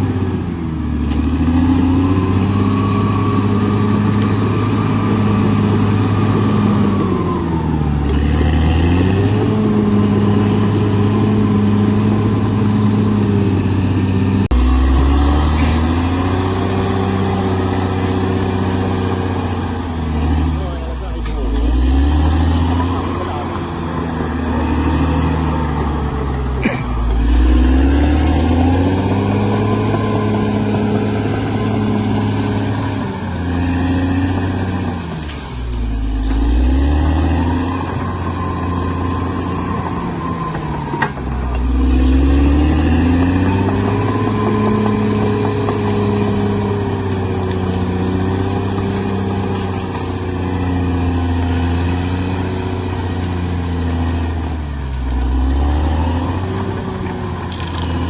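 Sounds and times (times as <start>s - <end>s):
bulldozer diesel engine lugging: 0.0s - 58.0s.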